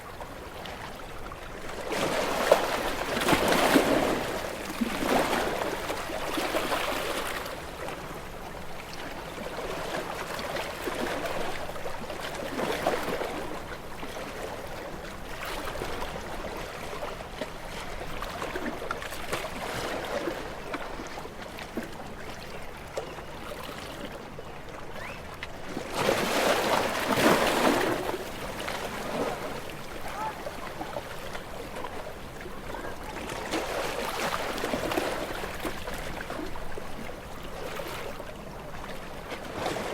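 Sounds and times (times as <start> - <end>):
small waves washing on shore: 0.0 - 39.9.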